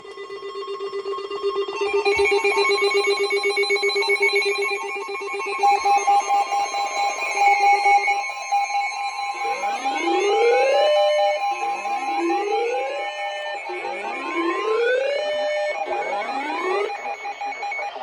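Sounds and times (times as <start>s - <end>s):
fast-pulsing electronic alarm trill: 1.8s - 18.0s.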